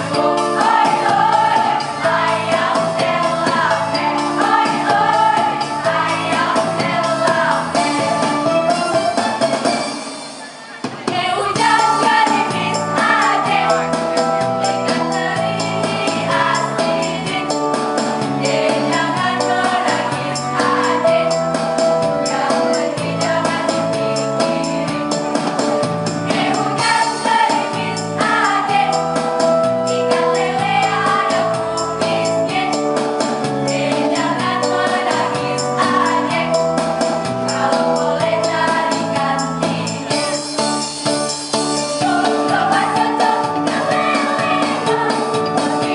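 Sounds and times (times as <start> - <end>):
choir singing in parts: 0.0 - 8.8, 10.9 - 40.9, 41.6 - 45.9
jingling percussion beat: 0.0 - 10.3, 11.5 - 45.9.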